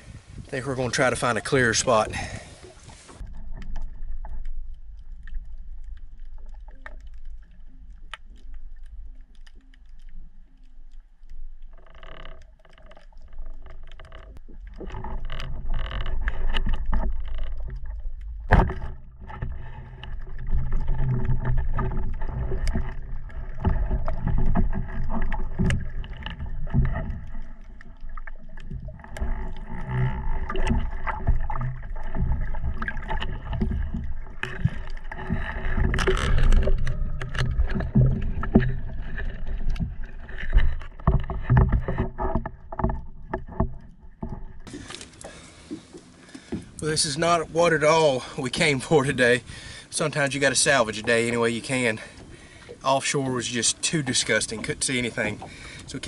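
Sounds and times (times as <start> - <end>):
boat motor hum underwater: 0.0 - 56.0.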